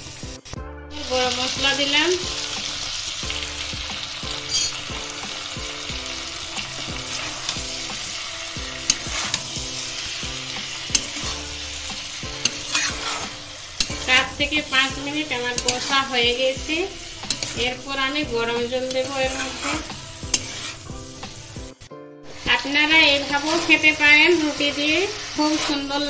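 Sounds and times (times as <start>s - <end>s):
vegetables sizzling in a pan: 0.0s - 26.0s
spatula stirring and scraping: 3.2s - 21.7s, 22.3s - 26.0s.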